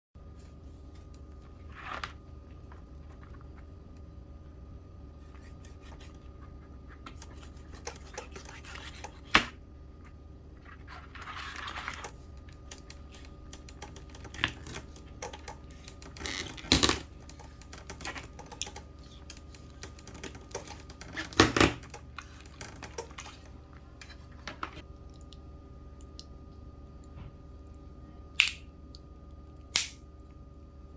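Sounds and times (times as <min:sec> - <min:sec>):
steady low hum: 0:00.2 - 0:30.9.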